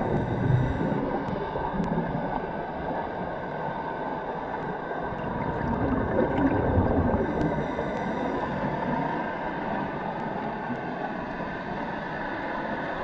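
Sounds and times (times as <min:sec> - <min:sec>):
faint steady hum: 0:00.0 - 0:13.0
underwater churning water: 0:00.0 - 0:13.0.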